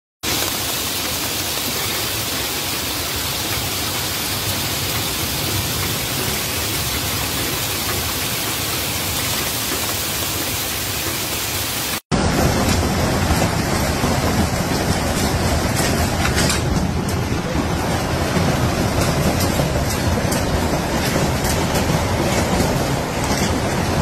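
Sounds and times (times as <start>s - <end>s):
heavy rain and hail pelting: 0.2s - 24.0s.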